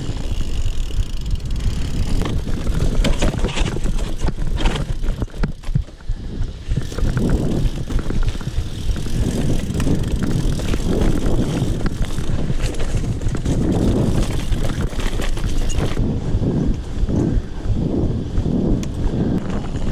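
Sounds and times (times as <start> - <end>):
bike clicks and rattles: 0.0 - 19.9
bike tyres rolling over rock: 0.0 - 19.9
wind on microphone: 0.0 - 19.9.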